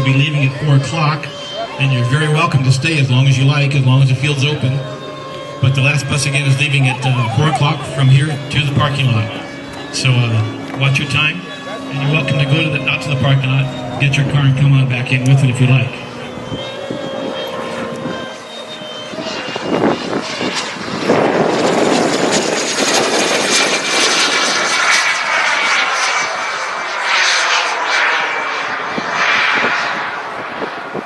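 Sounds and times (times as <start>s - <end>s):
model jet whine flying past: 0.0s - 31.0s.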